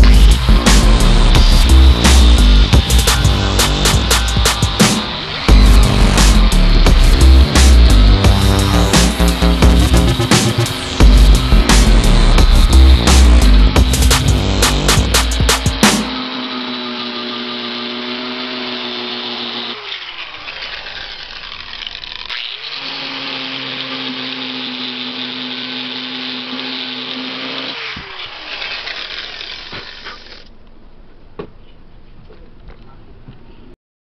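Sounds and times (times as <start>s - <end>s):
angle grinder sanding wood: 0.0s - 30.5s.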